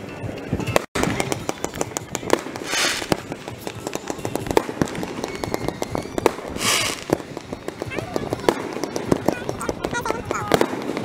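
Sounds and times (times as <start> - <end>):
fireworks popping and banging: 0.6 - 11.0
fireworks hissing rushes: 1.0 - 11.0.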